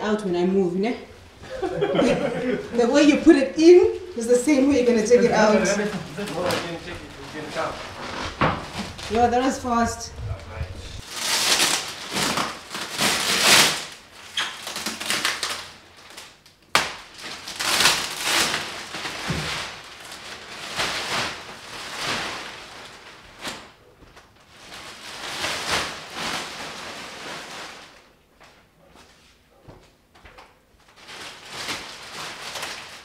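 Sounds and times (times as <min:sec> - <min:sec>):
plastic sheet rustling and crinkling: 0:01.6 - 0:29.4, 0:30.4 - 0:33.0.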